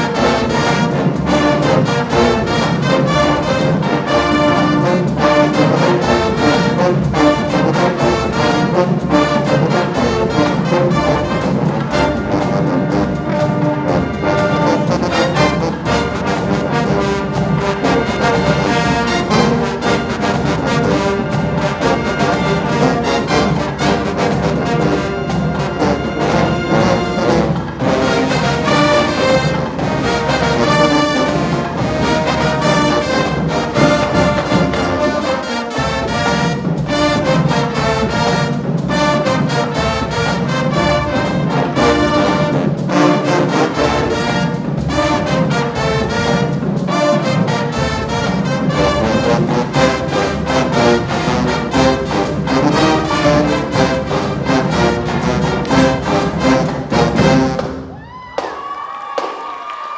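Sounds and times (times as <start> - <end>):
marching band playing: 0.0 - 59.9.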